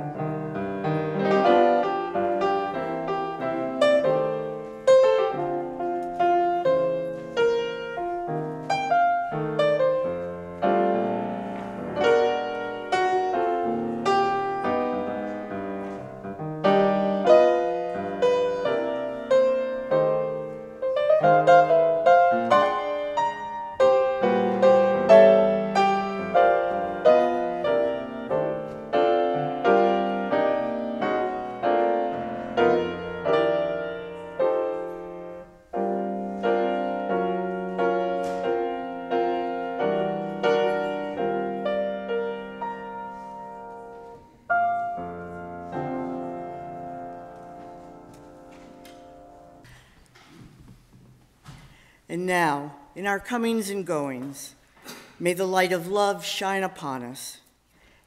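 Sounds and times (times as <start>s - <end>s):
solo piano playing: 0.0s - 49.7s.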